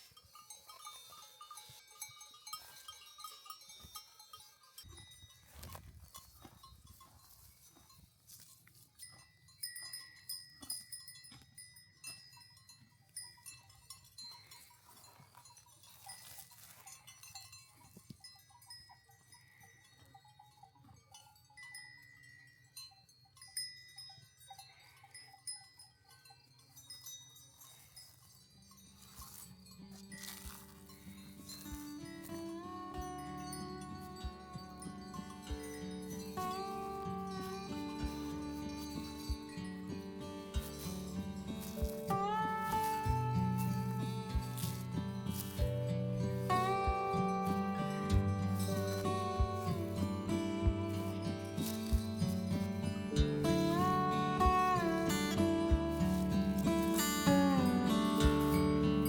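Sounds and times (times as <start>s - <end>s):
livestock bells tinkling: 0.0s - 59.0s.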